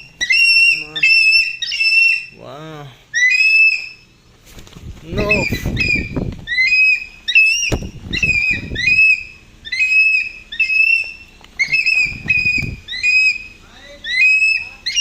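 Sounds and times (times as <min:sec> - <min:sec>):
hawk calling shrilly: 0:00.0 - 0:04.2, 0:05.1 - 0:15.0
low rumbles: 0:00.0 - 0:15.0.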